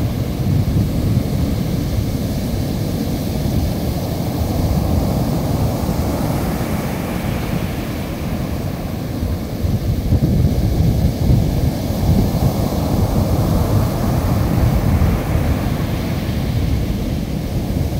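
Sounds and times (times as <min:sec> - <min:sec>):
surf washing up a beach: 0:00.0 - 0:17.9
wind rumbling on microphone: 0:00.0 - 0:17.9.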